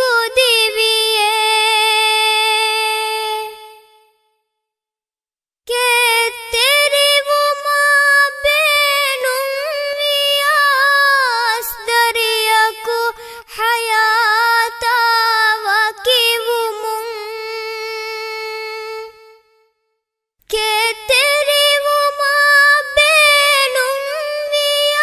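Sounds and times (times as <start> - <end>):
girl singing unaccompanied: 0.0 - 4.0, 5.7 - 19.4, 20.5 - 25.0.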